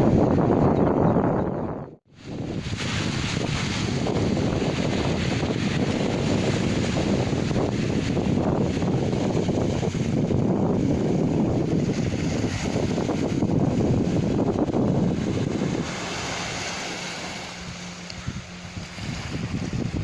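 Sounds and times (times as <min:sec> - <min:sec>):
wind buffeting microphone: 0:00.0 - 0:20.0
surf washing on sand: 0:02.1 - 0:20.0.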